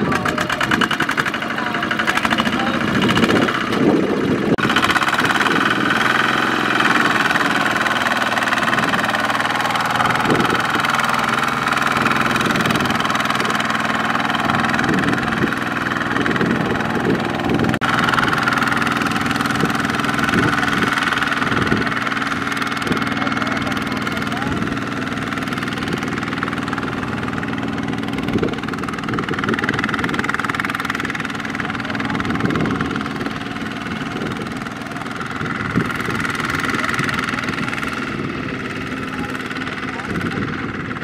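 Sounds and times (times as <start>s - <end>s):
diesel engine running under load: 0.0s - 41.0s.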